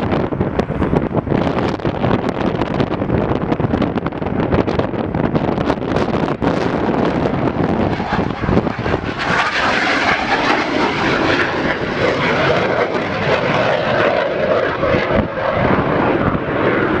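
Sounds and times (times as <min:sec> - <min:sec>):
jet engine rushing: 0:00.0 - 0:17.0
wind buffeting microphone: 0:00.0 - 0:17.0.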